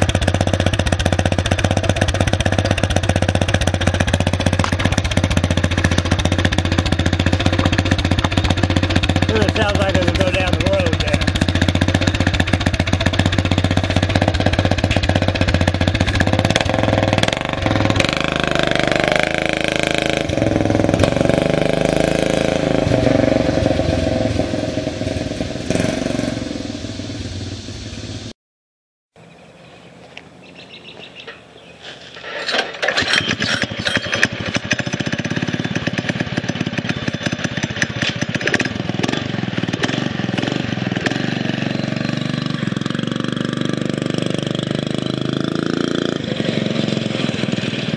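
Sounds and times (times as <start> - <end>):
mini bike engine running: 0.0 - 24.8, 32.2 - 47.9.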